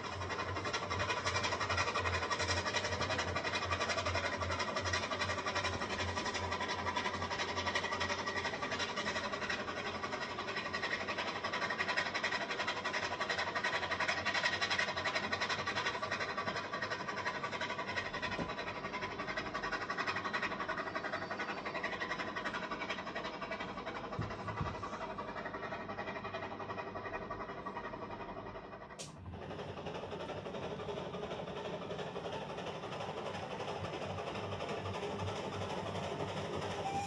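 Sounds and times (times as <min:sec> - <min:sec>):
model train clicking rattle: 0:00.0 - 0:37.0.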